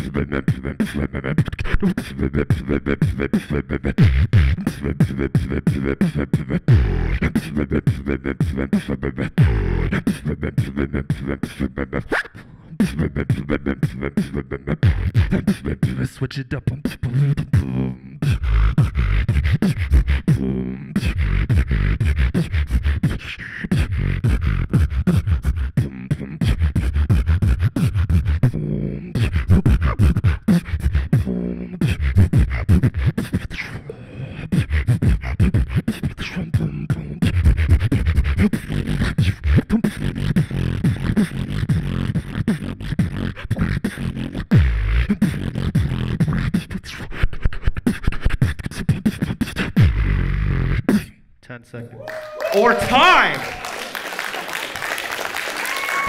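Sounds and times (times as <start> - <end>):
beatboxing into microphone: 0.0 - 51.6, 52.2 - 53.6.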